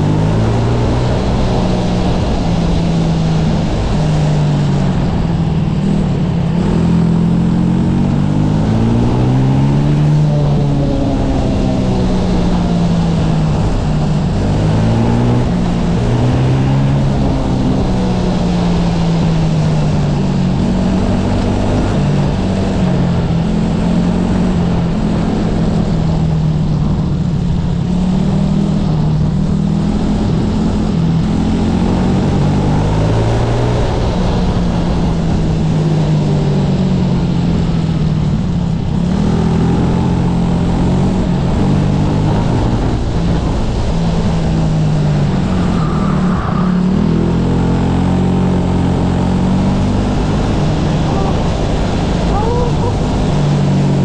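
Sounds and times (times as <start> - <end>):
kart engine running hard: 0.0 - 54.0
wind and road noise: 0.0 - 54.0.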